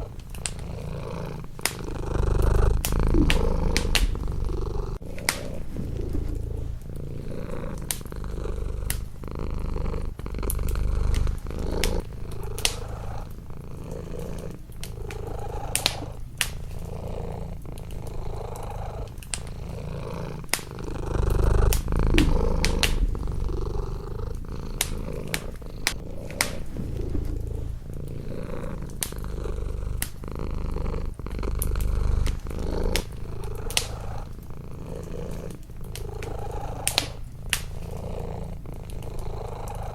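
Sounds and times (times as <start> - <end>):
wood fire crackling and popping: 0.0 - 39.7
cat purring: 0.0 - 39.9.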